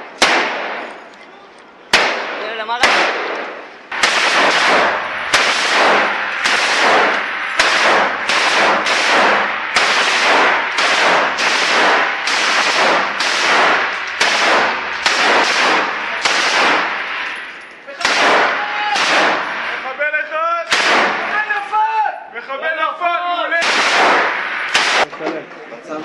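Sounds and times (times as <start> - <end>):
gunshots ringing in a room: 0.0 - 1.0, 1.9 - 19.9, 20.7 - 21.5, 23.5 - 25.1.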